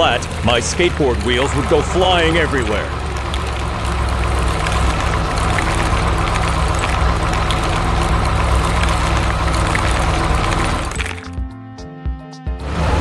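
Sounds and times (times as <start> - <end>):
heavy diesel engine rumbling: 0.0 - 11.4, 12.6 - 13.0.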